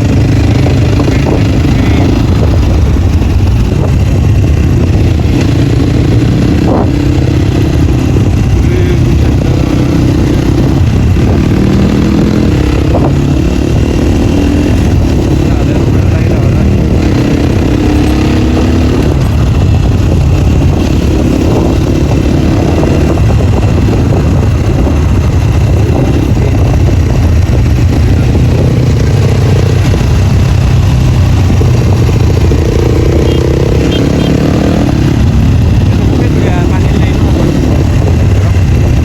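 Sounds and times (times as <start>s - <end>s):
loud dirt bike engine revving: 0.0s - 39.0s.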